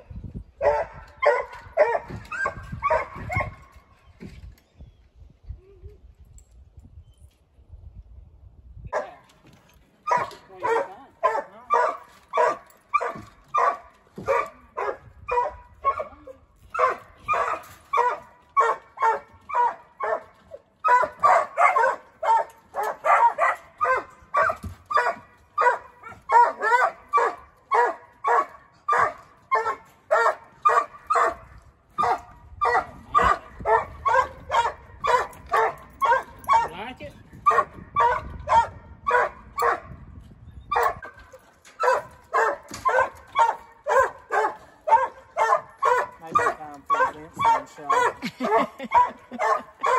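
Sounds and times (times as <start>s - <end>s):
dog barking: 0.6s - 3.6s, 10.1s - 16.1s, 16.8s - 36.8s, 37.4s - 39.9s, 40.7s - 41.2s, 41.8s - 49.9s.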